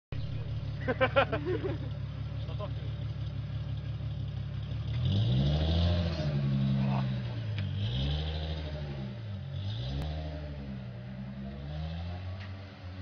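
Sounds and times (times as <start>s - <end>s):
car engine revving: 0.1s - 13.0s.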